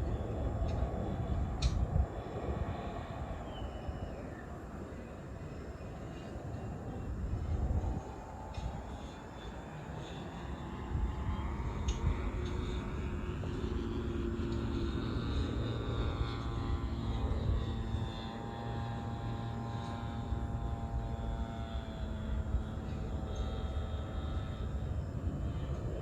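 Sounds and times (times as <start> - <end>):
model airplane motor whine: 0.0 - 26.0.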